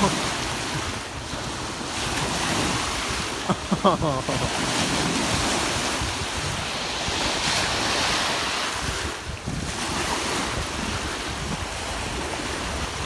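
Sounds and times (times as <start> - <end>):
ocean surf on shore: 0.0 - 13.0
wind buffeting microphone: 0.0 - 13.0.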